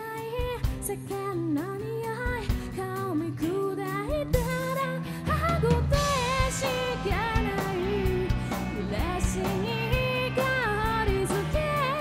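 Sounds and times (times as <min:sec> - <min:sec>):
drums: 0:00.0 - 0:12.0
electric guitar: 0:00.0 - 0:12.0
woman singing: 0:00.0 - 0:12.0
bass guitar: 0:00.2 - 0:12.0.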